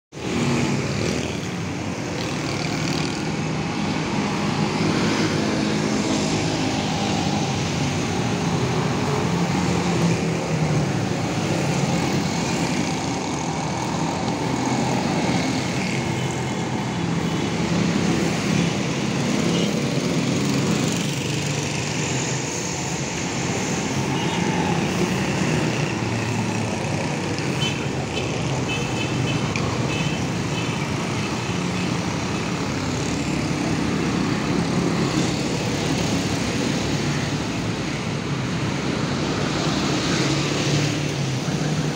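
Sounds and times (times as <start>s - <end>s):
road noise: 0.1s - 41.9s
motorcycle and car engines passing: 0.2s - 41.9s.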